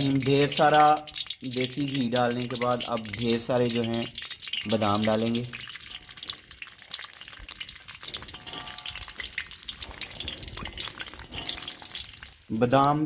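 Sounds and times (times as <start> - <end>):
almonds frying crackle and sizzle: 0.0 - 13.0.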